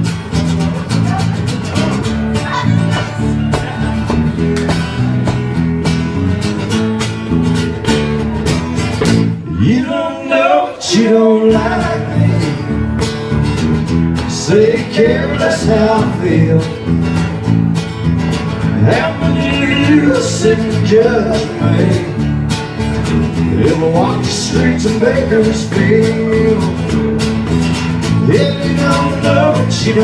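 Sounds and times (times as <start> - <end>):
electric bass line: 0.0 - 9.8, 11.5 - 30.0
acoustic guitar strummed and picked: 0.0 - 30.0.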